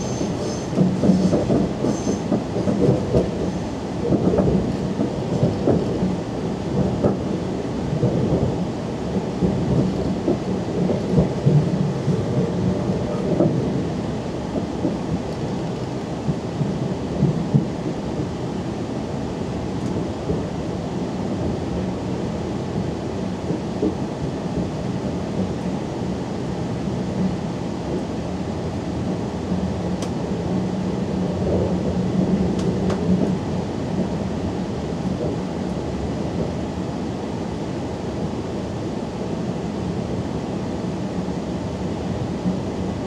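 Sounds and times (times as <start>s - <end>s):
train interior rumble: 0.0s - 43.0s.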